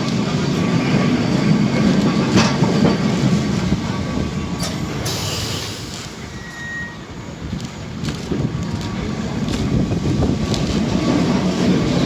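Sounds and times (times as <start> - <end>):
tram wheels rumbling on track: 0.0 - 12.0.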